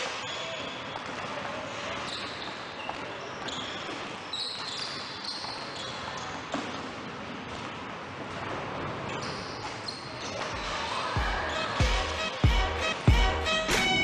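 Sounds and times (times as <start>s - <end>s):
sneakers squeaking: 0.0s - 14.0s.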